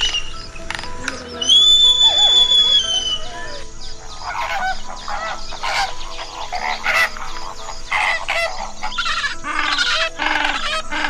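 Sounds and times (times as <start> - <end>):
albatrosses calling: 0.0 - 11.0.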